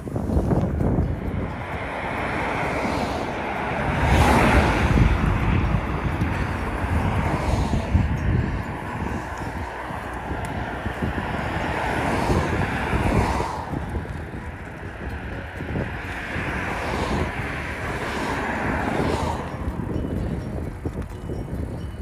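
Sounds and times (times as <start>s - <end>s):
rolling noise of moving e-bike: 0.0s - 22.0s
wind rushing over microphone: 0.0s - 22.0s.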